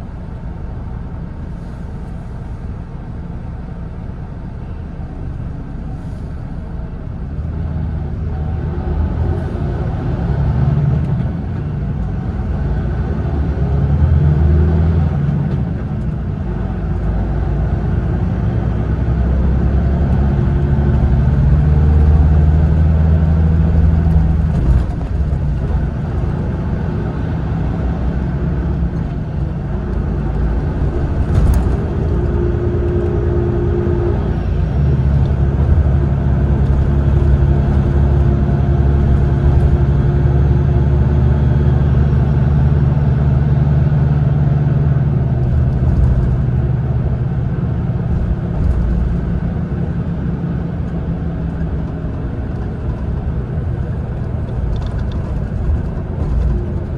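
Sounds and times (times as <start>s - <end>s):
bus diesel engine drone: 0.0s - 56.9s
road rumble: 0.0s - 56.9s.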